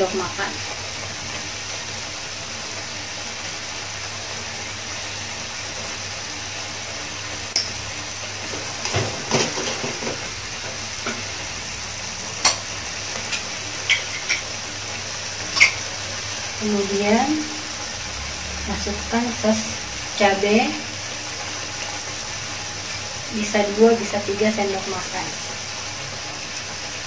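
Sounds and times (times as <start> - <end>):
onions sizzling in a wok: 0.0 - 27.0.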